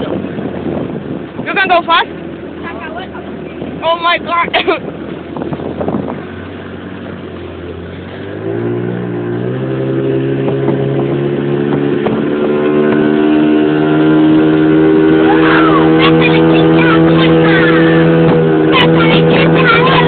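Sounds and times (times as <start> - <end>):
motorboat engine throttling up: 0.0 - 20.0.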